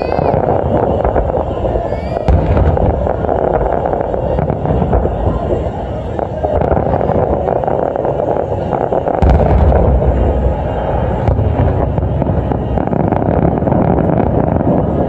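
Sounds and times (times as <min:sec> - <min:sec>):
firework booms: 0:00.0 - 0:15.0
firework crackling and popping: 0:00.0 - 0:15.0.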